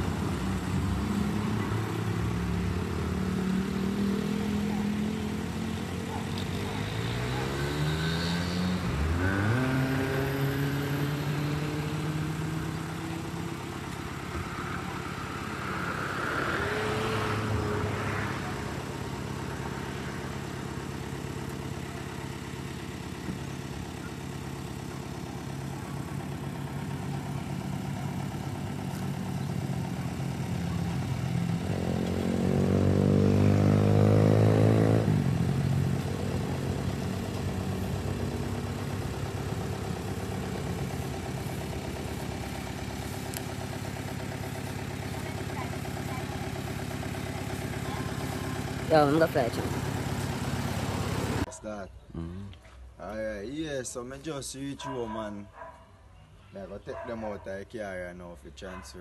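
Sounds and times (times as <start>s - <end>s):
traffic engine hum: 0.0s - 59.0s
vehicles passing by: 0.0s - 59.0s.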